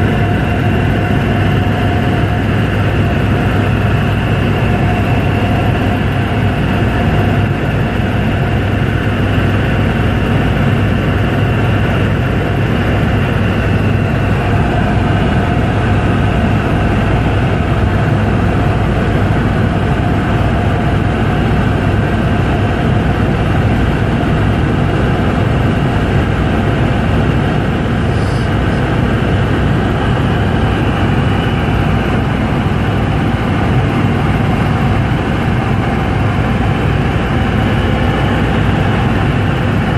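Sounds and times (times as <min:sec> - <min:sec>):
helicopter rotors and engine drone: 0:00.0 - 0:39.9.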